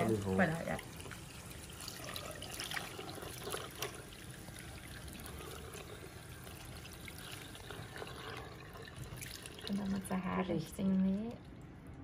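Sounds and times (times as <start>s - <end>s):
tap water running into sink: 0.0s - 11.5s
water splashing over cloth: 0.0s - 11.5s.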